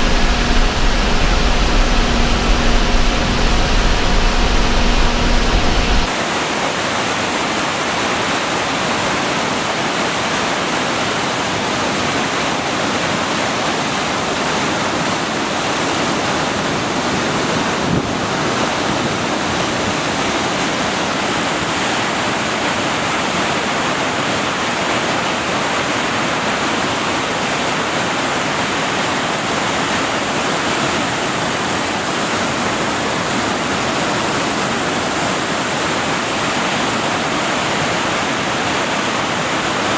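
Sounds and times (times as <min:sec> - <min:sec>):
water rushing from dam spillway: 0:00.0 - 0:39.9.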